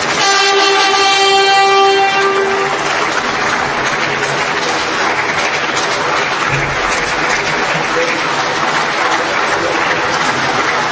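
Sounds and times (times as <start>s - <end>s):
applause: 0.0s - 10.9s
hubbub of many voices: 0.0s - 10.9s.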